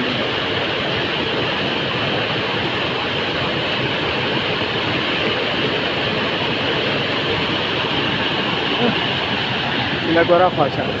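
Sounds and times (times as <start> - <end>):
fast-flowing water rushing: 0.0 - 11.0.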